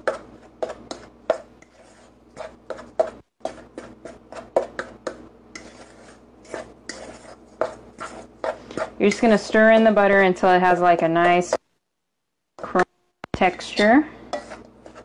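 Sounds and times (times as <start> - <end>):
wooden spoon scraping metal pot: 0.0 - 11.6, 12.6 - 15.0.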